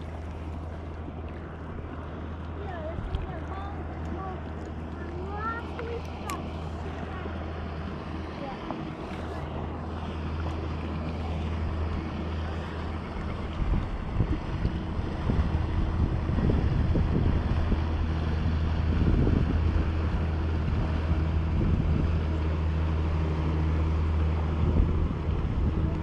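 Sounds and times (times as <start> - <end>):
outboard motor running: 0.0 - 26.0
wind rumbling on microphone: 0.0 - 26.0.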